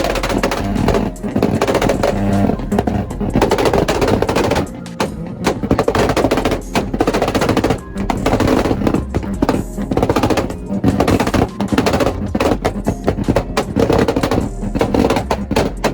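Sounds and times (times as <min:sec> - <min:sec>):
exhaust pops and bangs: 0:00.0 - 0:15.9.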